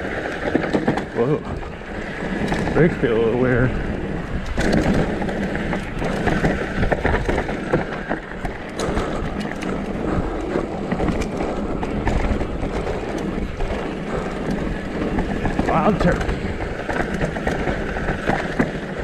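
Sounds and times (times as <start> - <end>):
bike rattling and clacking: 0.0 - 19.0
bike tyres on dirt and rocks: 0.0 - 19.0
wind on microphone: 0.0 - 19.0.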